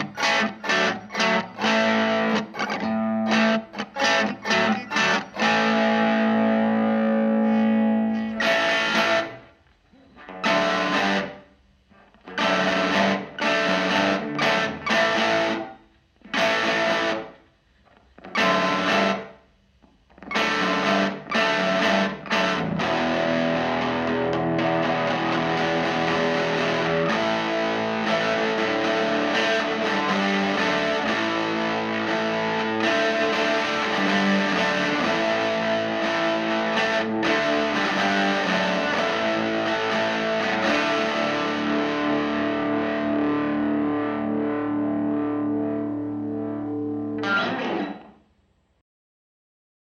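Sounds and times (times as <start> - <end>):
overdriven electric guitar: 0.0 - 48.2.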